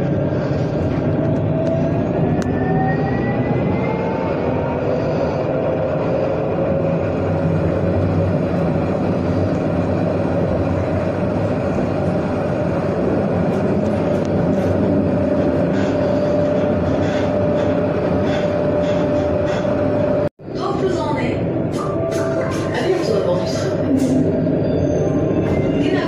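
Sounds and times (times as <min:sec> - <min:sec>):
tram running on rails: 0:00.0 - 0:26.0.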